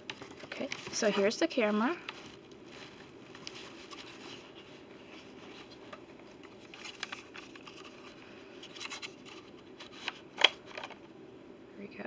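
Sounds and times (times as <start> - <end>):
wrapping rustling: 0.0 - 11.0.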